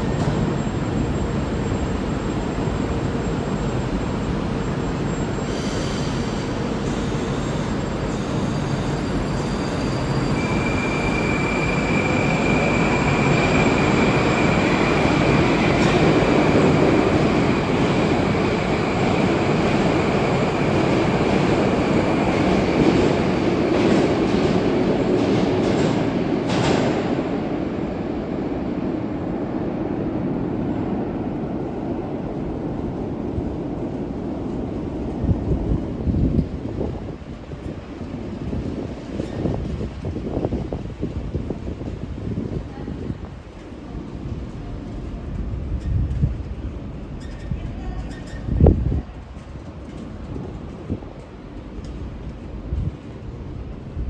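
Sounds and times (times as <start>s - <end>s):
metro train running: 0.0s - 54.0s.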